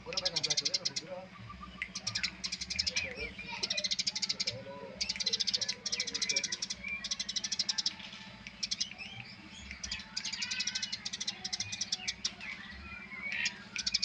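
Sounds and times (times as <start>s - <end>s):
sparrow chirping: 0.0s - 14.0s.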